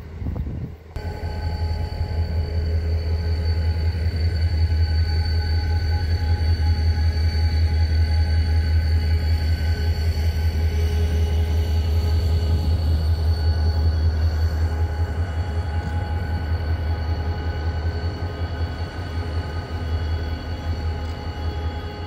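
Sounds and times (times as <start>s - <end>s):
diesel locomotive drone: 0.0s - 22.0s
faint steady whines: 0.0s - 22.0s.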